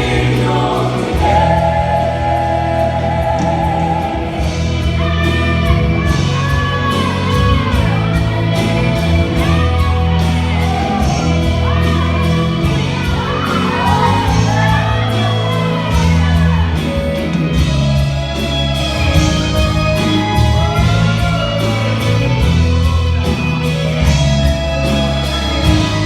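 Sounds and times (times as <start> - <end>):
gospel band playing: 0.0 - 26.0
sliding lead melody: 0.0 - 26.0.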